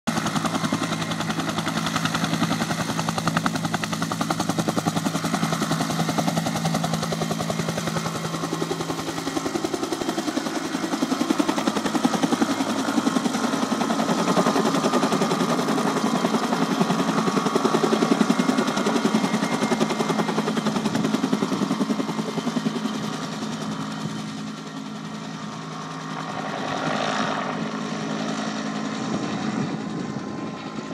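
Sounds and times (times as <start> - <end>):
helicopter rotor chopping: 0.1 - 30.9
helicopter turbine noise: 0.1 - 30.9.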